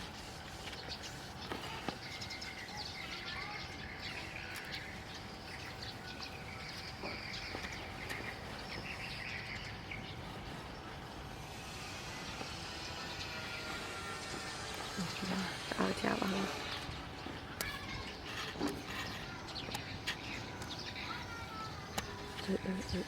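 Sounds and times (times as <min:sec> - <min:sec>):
faint constant hum: 0:00.0 - 0:23.0
small birds chirping: 0:00.0 - 0:23.0.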